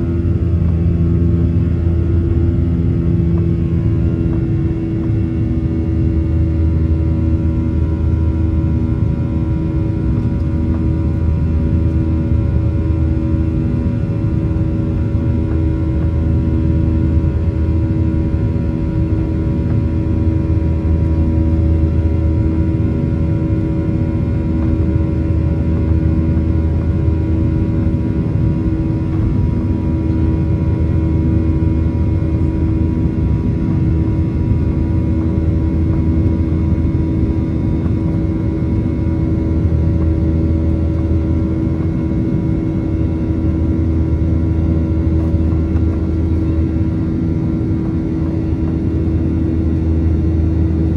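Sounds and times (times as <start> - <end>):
jet engines droning in cabin: 0.0 - 50.9.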